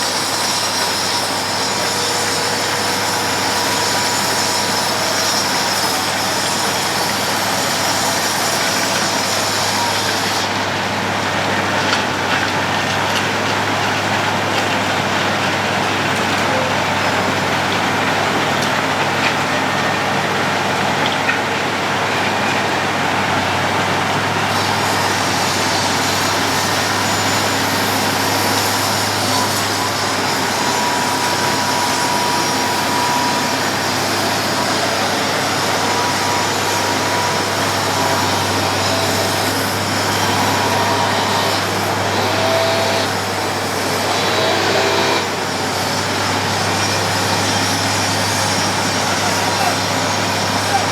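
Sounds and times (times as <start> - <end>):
engine drone: 0.0 - 50.9
machine milling road surface: 0.0 - 50.9.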